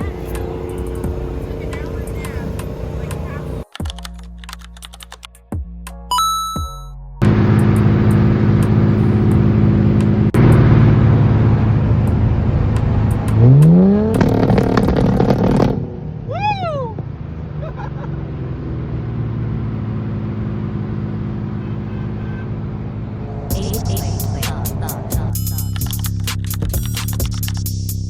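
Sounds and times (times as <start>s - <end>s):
car engine idling and revving: 0.0s - 5.3s, 7.2s - 28.0s.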